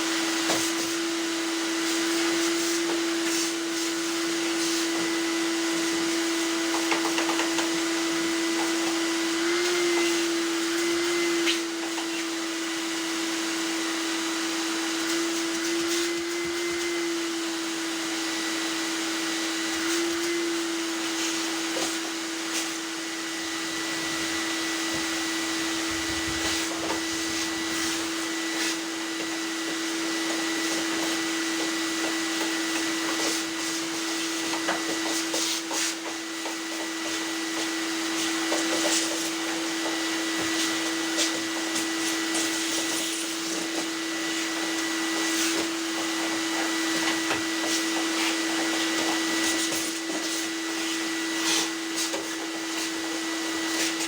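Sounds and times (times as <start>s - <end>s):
tumble dryer running: 0.0s - 54.0s.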